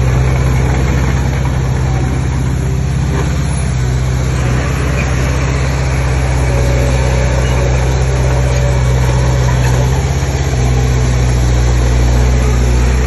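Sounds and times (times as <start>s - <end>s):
heavy machine diesel engine running: 0.0s - 13.0s.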